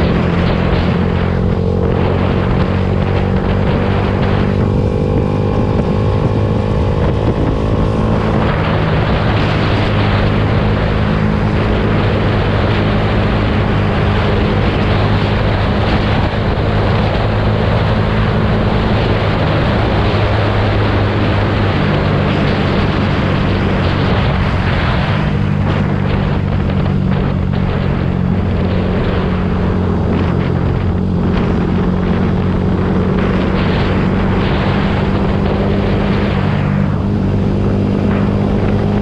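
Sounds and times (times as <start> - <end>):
motorcycle engine droning: 0.0 - 39.0.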